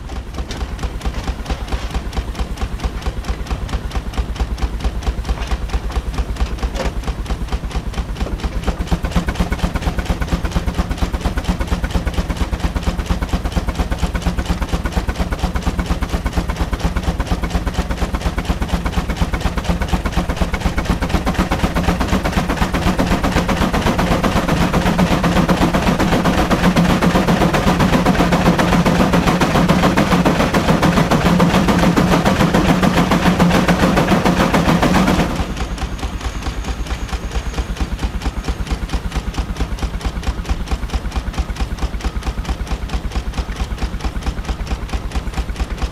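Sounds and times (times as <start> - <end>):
steady low hum: 0.0 - 45.9
steam engine exhaust chuffs: 0.0 - 45.9.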